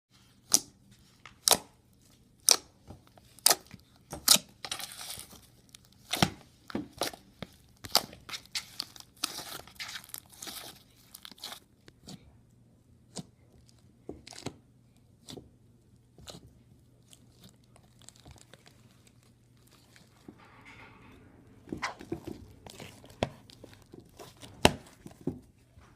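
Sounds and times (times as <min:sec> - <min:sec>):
slime squishing: 0:00.1 - 0:20.4, 0:21.6 - 0:25.9.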